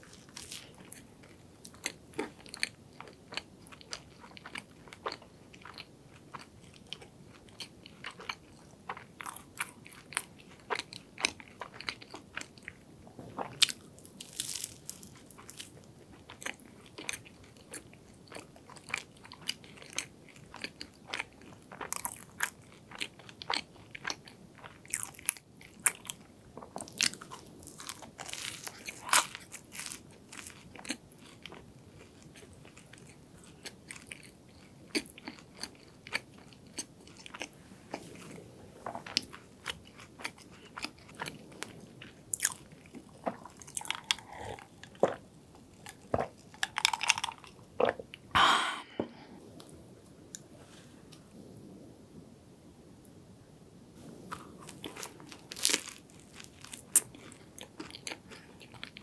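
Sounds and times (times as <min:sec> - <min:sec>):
crunching and chewing pastry: 0:00.0 - 0:48.3, 0:54.2 - 0:59.0.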